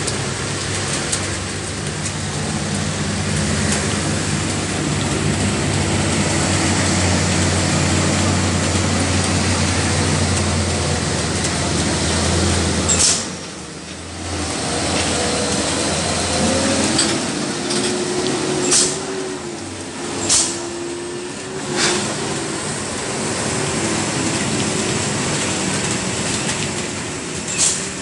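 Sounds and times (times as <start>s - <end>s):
diesel truck engines droning: 0.0s - 28.0s.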